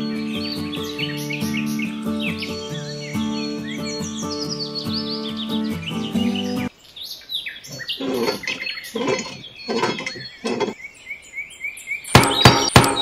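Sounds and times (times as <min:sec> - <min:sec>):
birds chirping and whistling: 0:00.0 - 0:13.0
lower fuller bird calls: 0:00.0 - 0:13.0.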